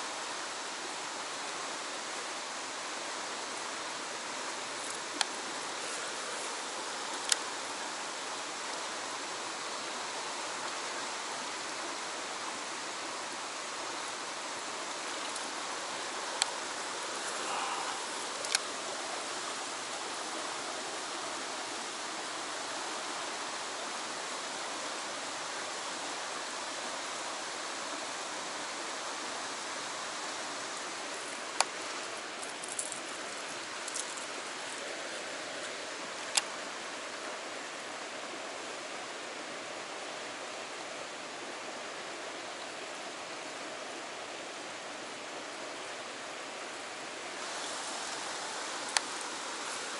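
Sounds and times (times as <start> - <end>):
stream flowing over rock: 0.0 - 49.9.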